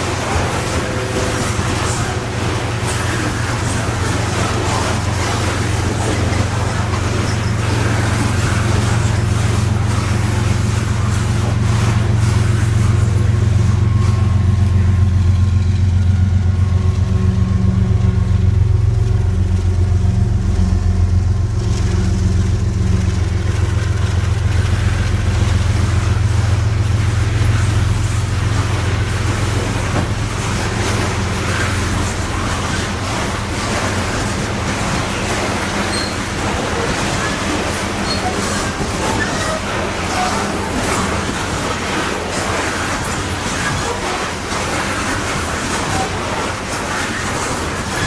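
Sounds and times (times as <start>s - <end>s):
diesel locomotive engine drone: 0.0s - 48.0s.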